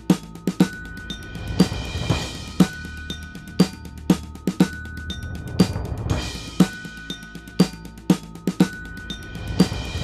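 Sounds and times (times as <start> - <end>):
drum kit beat: 0.0 - 10.0.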